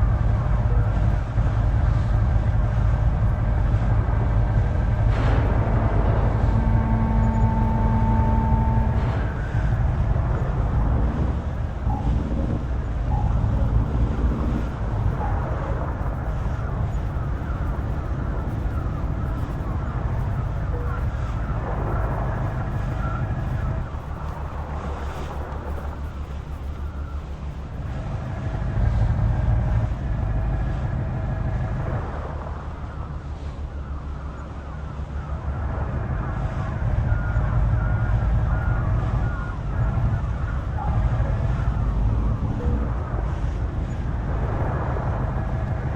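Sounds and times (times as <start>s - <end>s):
truck engine rumbling: 0.0s - 45.9s.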